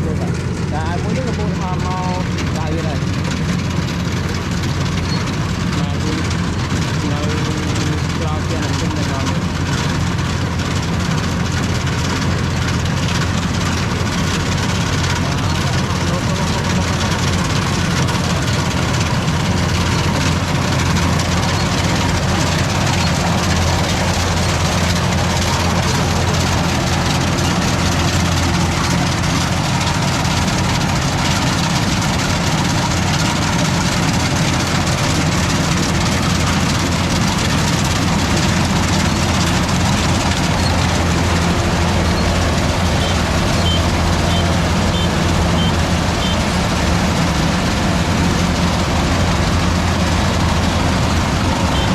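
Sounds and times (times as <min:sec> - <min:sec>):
engine droning steadily: 0:00.0 - 0:51.9.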